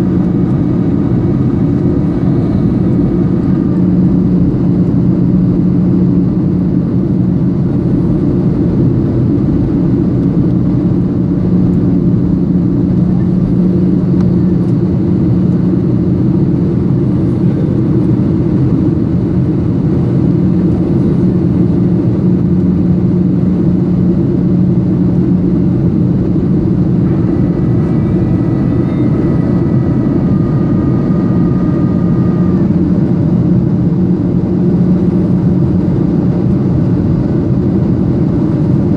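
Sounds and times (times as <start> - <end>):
faint high whine: 0.0 - 38.9
jet engine cabin drone: 0.0 - 38.9.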